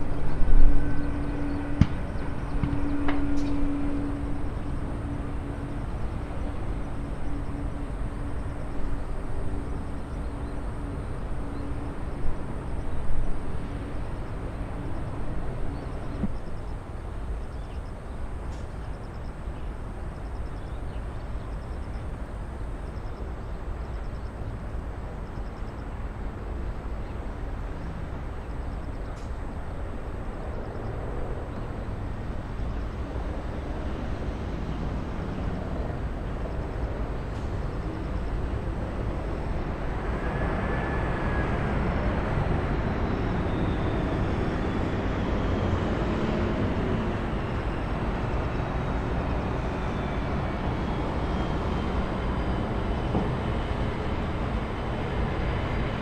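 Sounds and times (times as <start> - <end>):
high jet whine: 0.0 - 56.0
jet engines roaring: 0.0 - 56.0.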